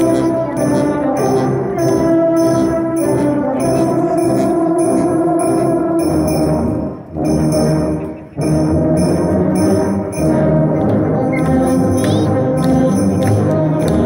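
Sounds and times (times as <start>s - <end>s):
brass band playing carol: 0.0s - 14.0s.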